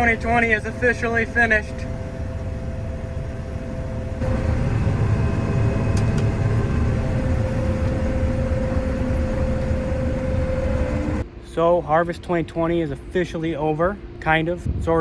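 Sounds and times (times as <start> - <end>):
combine harvester engine drone: 0.0 - 14.7
constant machine whine: 0.0 - 15.0.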